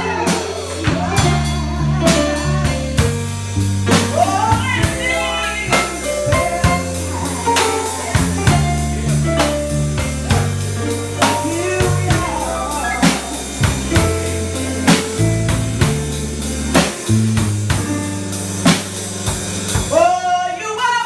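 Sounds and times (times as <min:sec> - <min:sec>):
drum kit beat: 0:00.0 - 0:20.3
live band music: 0:00.0 - 0:21.0.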